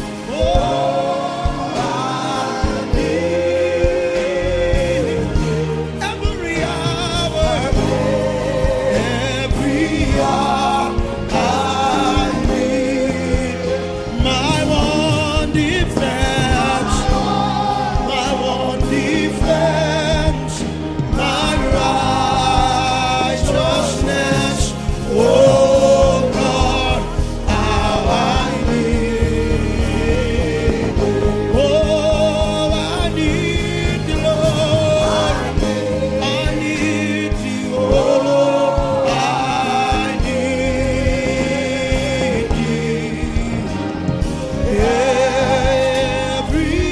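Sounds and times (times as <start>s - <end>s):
gospel choir singing: 0.0s - 46.9s
instrumental backing: 0.0s - 46.9s.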